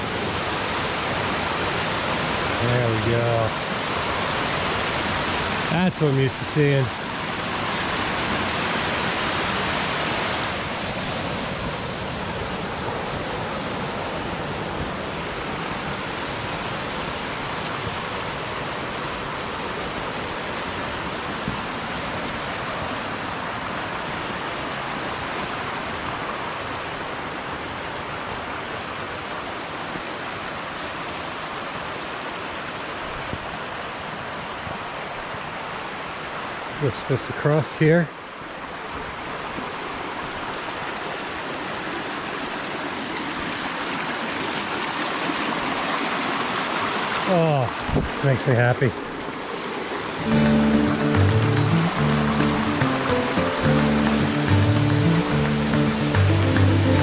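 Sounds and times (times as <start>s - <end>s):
waterfall roaring: 0.0s - 37.5s, 38.2s - 57.0s.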